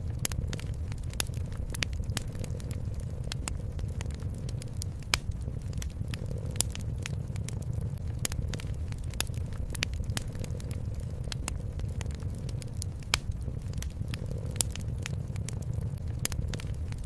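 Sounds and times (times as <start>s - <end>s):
cat purring: 0.0s - 17.0s
wood fire crackling: 0.0s - 17.0s.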